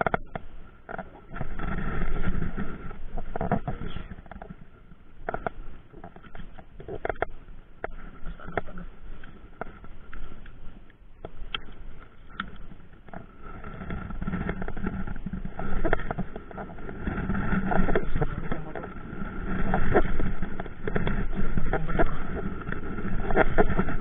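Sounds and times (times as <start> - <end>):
water lapping around boat: 0.0 - 24.0
wind buffeting microphone: 0.0 - 24.0.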